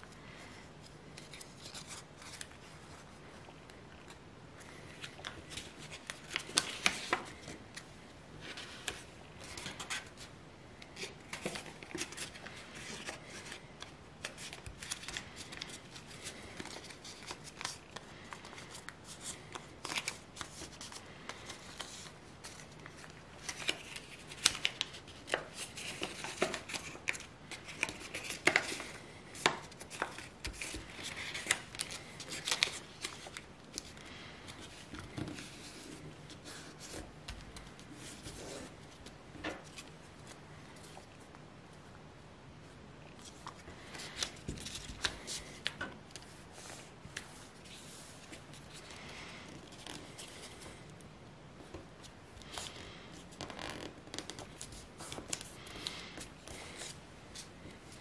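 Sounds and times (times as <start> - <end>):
paper rustling and crackling: 8.4 - 41.2, 43.2 - 50.8, 51.6 - 58.0.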